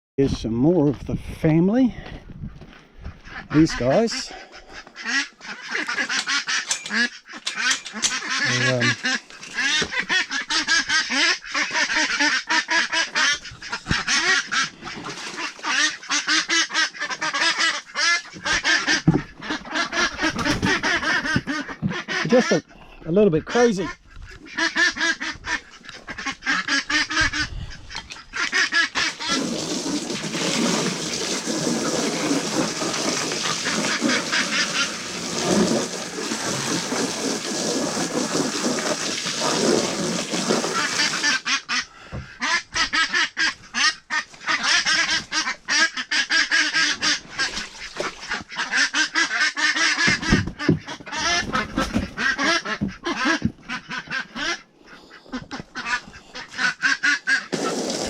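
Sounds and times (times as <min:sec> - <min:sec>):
waterfowl flock calling: 0:03.2 - 0:29.7, 0:30.3 - 0:58.0.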